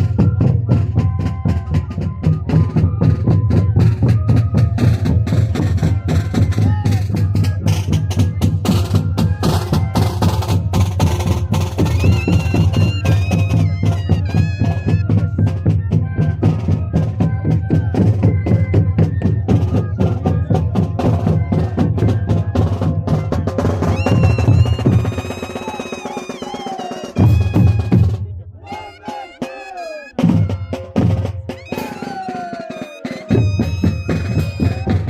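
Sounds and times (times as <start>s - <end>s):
cane flute melody: 0.0s - 35.0s
fast steady drumming: 0.0s - 35.0s.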